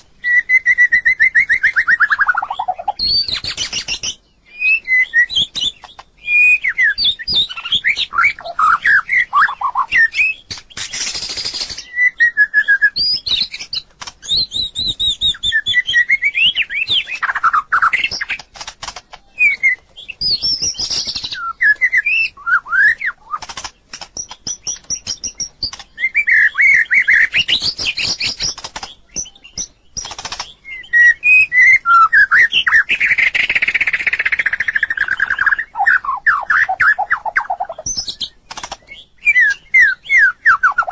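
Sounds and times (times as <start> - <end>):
bird singing whistles and clicks: 0.0 - 40.9.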